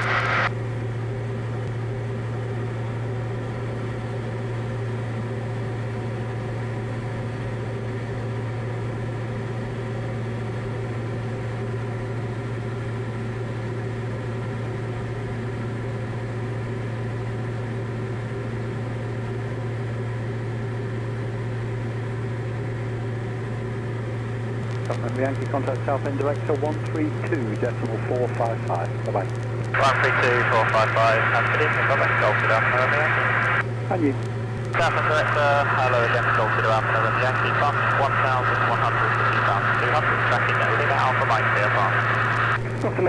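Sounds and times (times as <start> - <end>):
light aircraft engine droning: 0.0 - 43.0.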